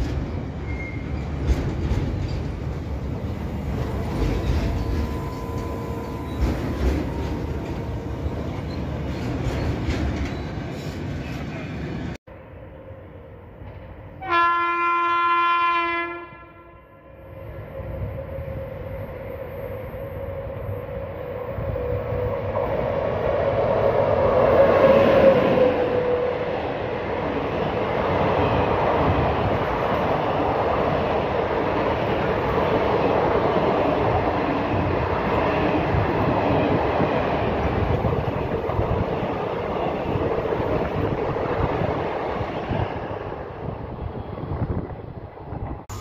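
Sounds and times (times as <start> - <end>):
passenger train passing: 0.0 - 46.0.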